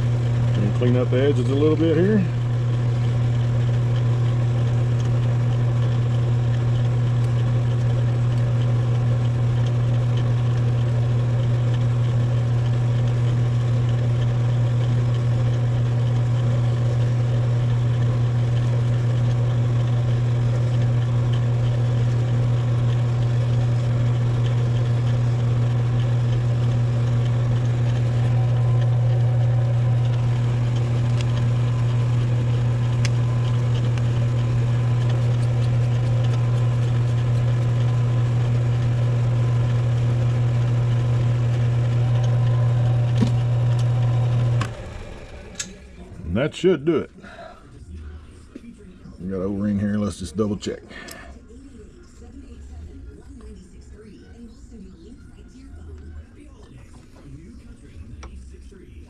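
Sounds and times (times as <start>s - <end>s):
metal lathe motor humming: 0.0s - 54.8s.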